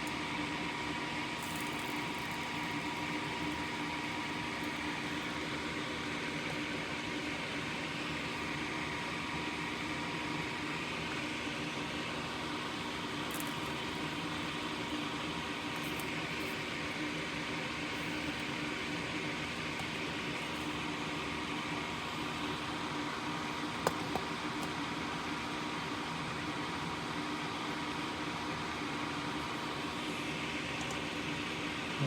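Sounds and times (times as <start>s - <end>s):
equipment hiss and hum: 0.0s - 32.0s.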